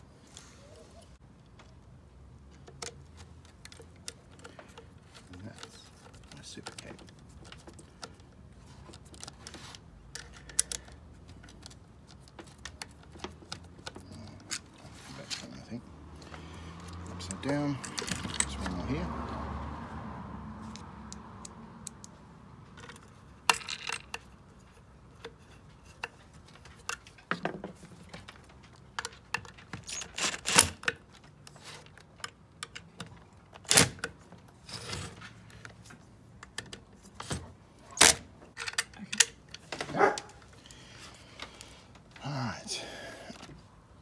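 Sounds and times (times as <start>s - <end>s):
clicks and clinks of parts: 2.4s - 19.0s, 20.6s - 42.2s.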